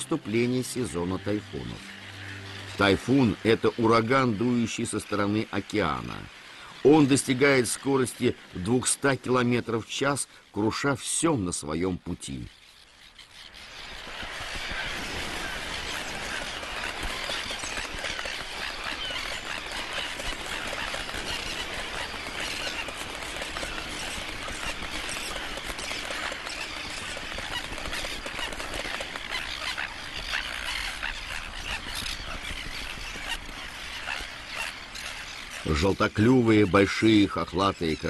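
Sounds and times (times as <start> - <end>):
terns squawking: 0.0 - 38.0.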